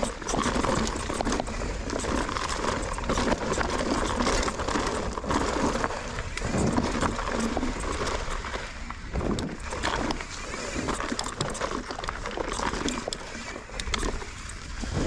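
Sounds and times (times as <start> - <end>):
wind on microphone: 0.0 - 11.7, 13.8 - 15.0
bike rattling and clattering: 0.0 - 15.0.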